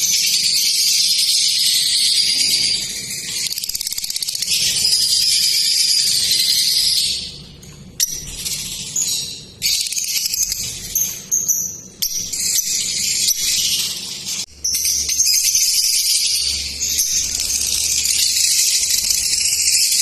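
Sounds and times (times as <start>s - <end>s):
lovebirds chattering: 0.1s - 20.0s.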